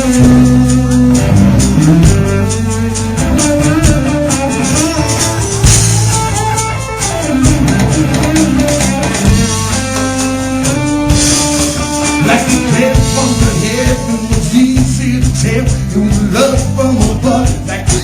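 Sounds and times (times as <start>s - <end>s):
drum kit: 0.0s - 18.0s
electric guitar lines: 0.0s - 18.0s.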